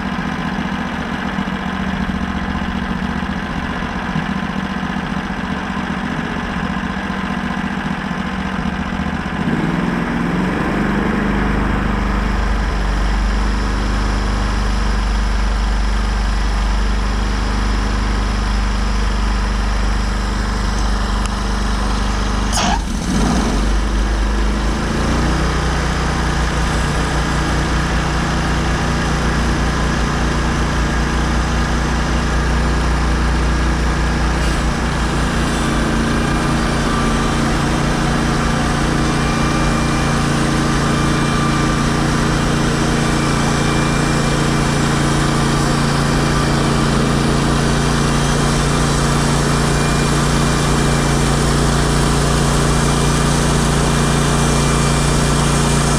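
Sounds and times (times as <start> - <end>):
sawmill engine running: 0.0 - 55.9.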